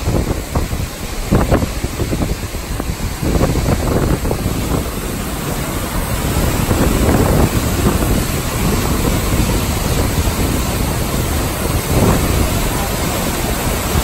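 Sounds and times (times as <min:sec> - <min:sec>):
creek rushing over rocks: 0:00.0 - 0:14.0.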